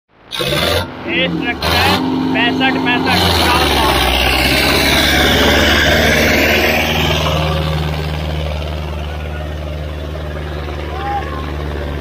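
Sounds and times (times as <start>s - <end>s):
tractor diesel engine running: 0.1s - 12.0s
loud rushing noise: 0.3s - 12.0s.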